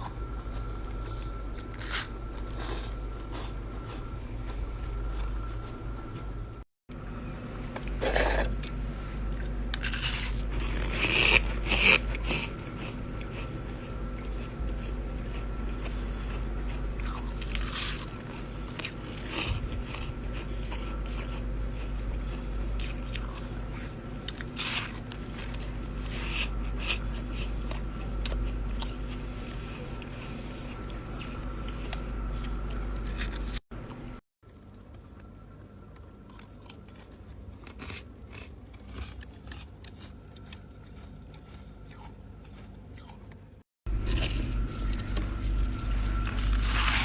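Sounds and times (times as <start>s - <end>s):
ice being chewed: 0.0s - 6.3s, 7.8s - 47.0s.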